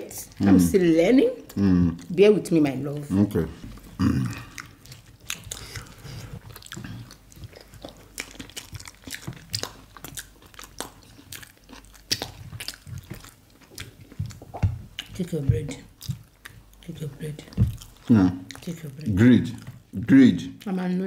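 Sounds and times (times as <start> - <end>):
people chewing food: 0.0 - 21.0
mouth clicks and smacks: 3.7 - 20.7.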